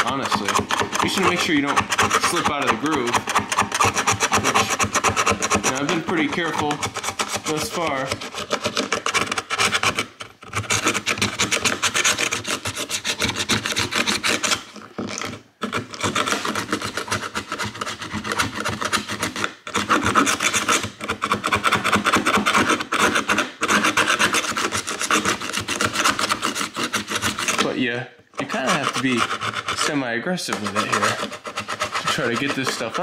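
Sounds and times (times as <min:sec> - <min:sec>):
metal tool scraping foam: 0:00.0 - 0:33.0.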